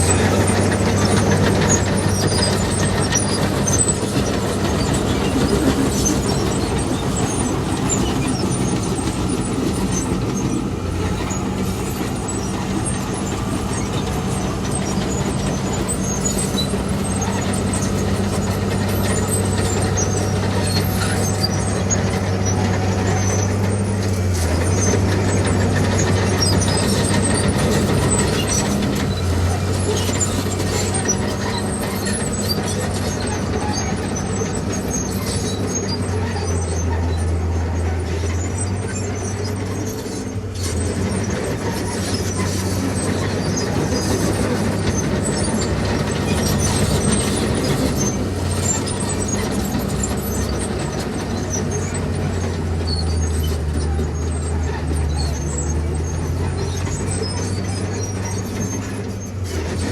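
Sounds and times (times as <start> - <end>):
diesel machinery engine: 0.0 - 59.9.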